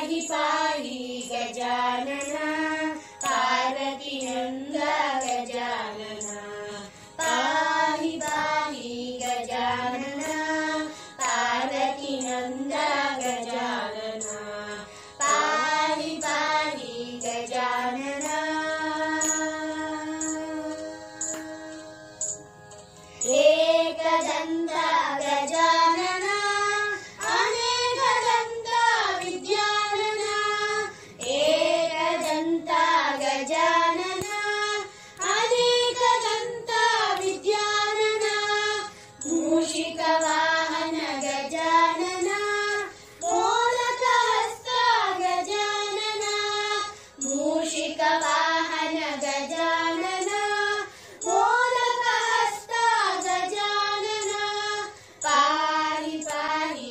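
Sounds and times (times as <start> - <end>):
children singing prayer song: 0.0 - 21.8, 23.3 - 56.9.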